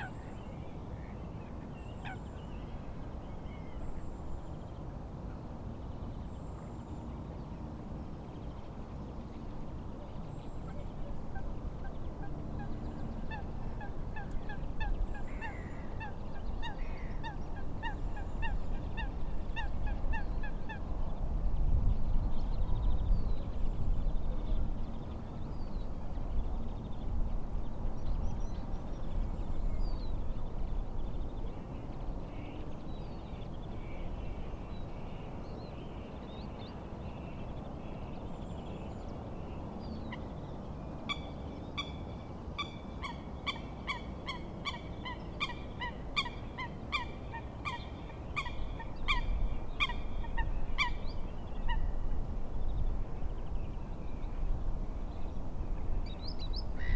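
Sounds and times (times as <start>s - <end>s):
wind: 0.0s - 56.9s.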